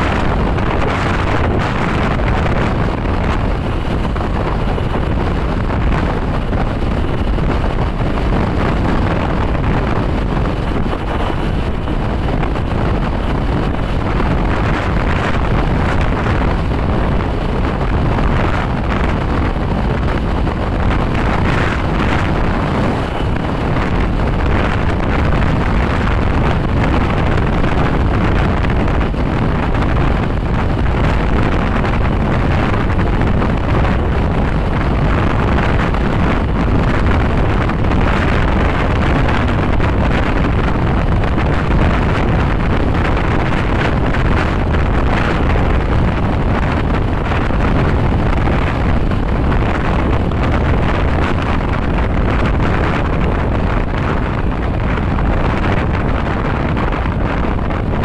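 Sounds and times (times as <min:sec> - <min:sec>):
road and engine noise: 0:00.0 - 0:58.0
wind rushing over microphone: 0:00.0 - 0:58.0.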